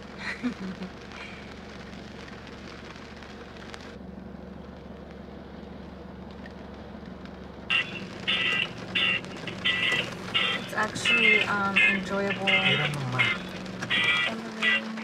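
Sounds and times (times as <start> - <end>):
choppy sound inside car: 0.0 - 15.0
rain on car roof: 0.0 - 15.0.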